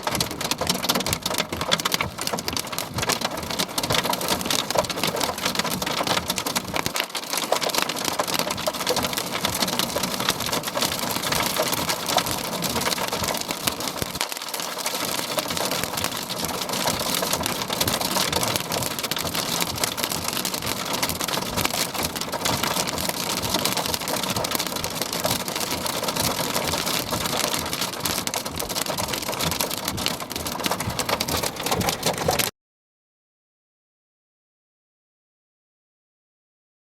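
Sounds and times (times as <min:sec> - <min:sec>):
heavy rain pelting down: 0:00.0 - 0:32.5.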